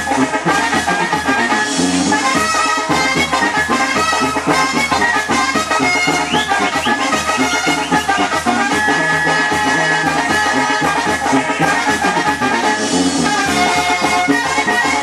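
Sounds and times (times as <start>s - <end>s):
loud dance music with brass: 0.0s - 15.0s.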